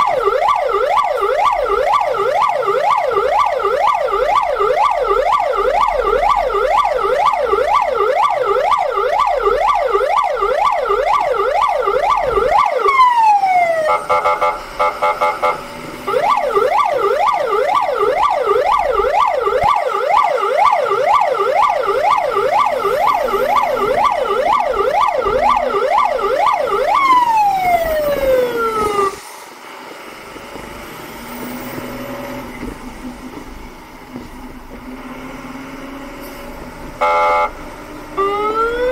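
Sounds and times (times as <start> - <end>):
fire truck siren yelp: 0.0 - 29.7, 31.2 - 38.9
road noise: 0.0 - 38.9.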